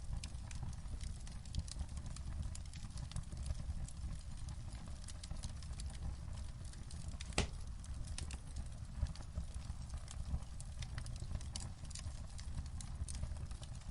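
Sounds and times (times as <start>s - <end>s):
fireplace fire crackling: 0.0s - 13.9s
rumble of flames: 0.0s - 13.9s.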